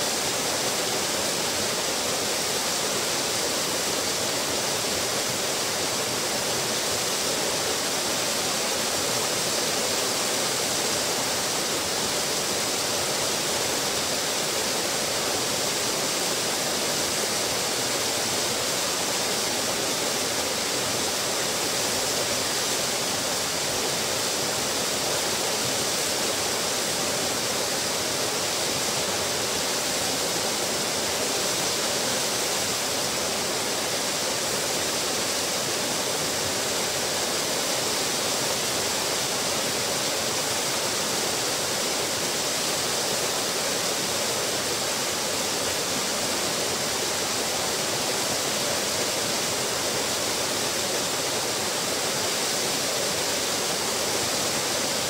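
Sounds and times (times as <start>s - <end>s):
waterfall splashing into pool: 0.0s - 55.0s.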